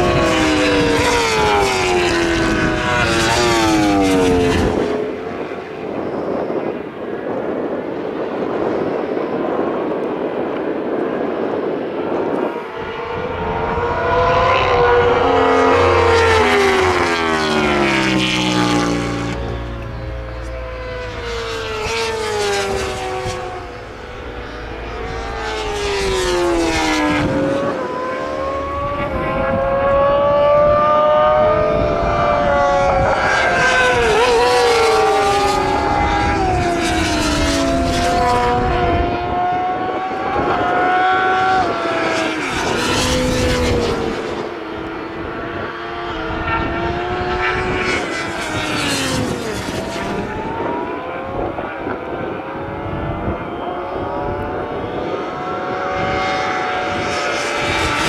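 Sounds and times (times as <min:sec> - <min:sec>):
racing motorcycles passing at speed: 0:00.0 - 0:58.0.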